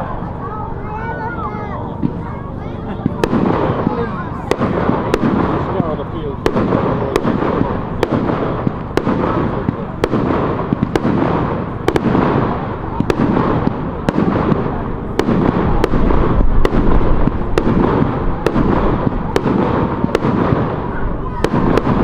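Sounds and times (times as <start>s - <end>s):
fireworks crackle and rumble: 0.0s - 22.0s
fireworks cracks: 0.0s - 22.0s.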